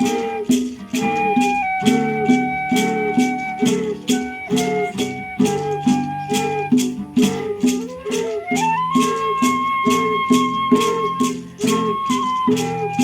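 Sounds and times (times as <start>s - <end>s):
long held high notes: 0.0s - 13.0s
plucked string figure: 0.0s - 13.0s
shaker beat: 0.0s - 13.0s.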